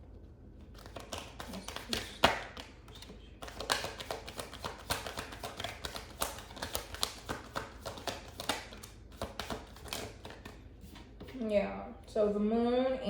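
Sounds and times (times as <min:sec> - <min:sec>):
cards being shuffled: 0:00.6 - 0:11.4.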